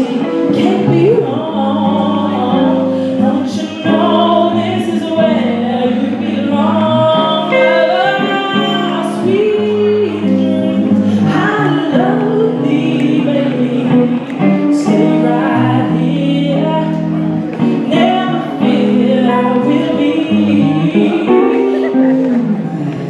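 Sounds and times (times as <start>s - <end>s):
instrumental accompaniment: 0.0s - 23.0s
woman singing into a microphone: 0.0s - 23.0s.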